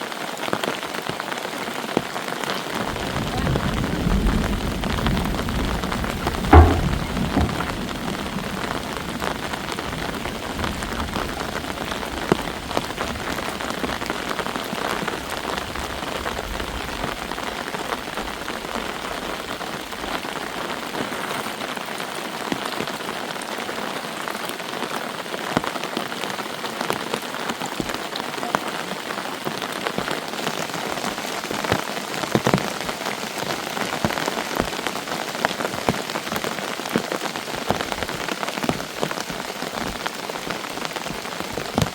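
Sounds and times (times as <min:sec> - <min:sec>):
heavy rain falling: 0:00.0 - 0:41.9
raindrops ticking on a surface: 0:00.0 - 0:41.9.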